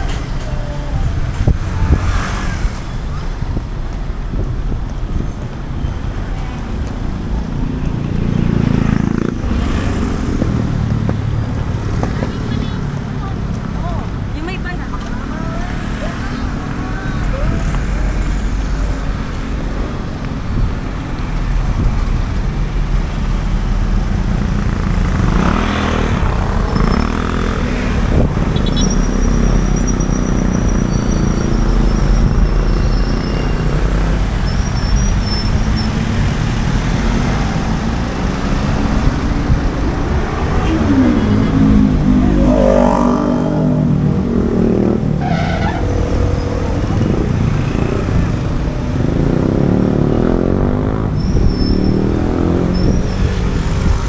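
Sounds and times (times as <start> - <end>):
engines passing close: 0.0 - 54.0
street traffic rumble: 0.0 - 54.0.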